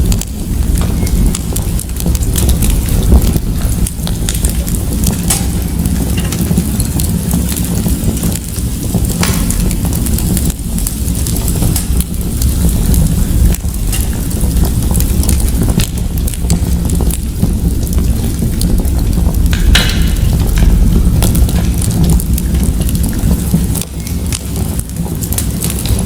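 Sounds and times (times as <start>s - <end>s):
fireplace fire crackling: 0.0s - 26.0s
sharp pops of fire: 0.0s - 26.0s.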